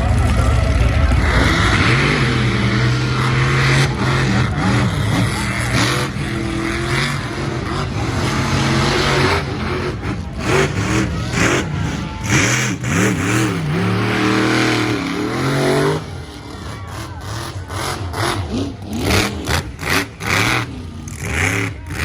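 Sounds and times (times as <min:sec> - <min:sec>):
truck engines revving hard: 0:00.0 - 0:22.0.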